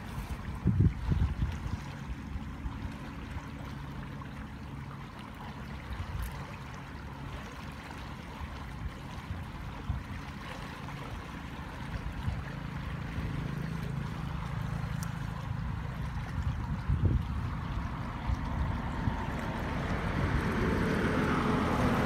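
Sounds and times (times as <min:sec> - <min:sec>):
floodwater rushing: 0:00.0 - 0:22.0
low rumbling: 0:00.0 - 0:22.0.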